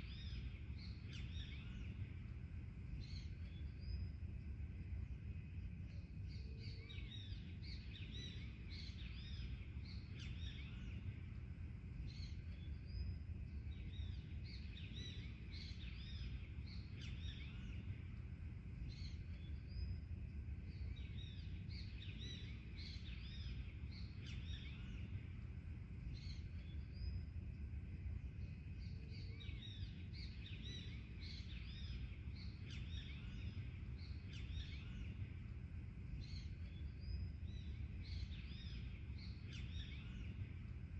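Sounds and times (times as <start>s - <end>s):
birds chirping and singing: 0.0s - 4.4s, 5.9s - 11.4s, 12.0s - 27.2s, 28.4s - 40.9s
low background rumble: 0.0s - 40.9s.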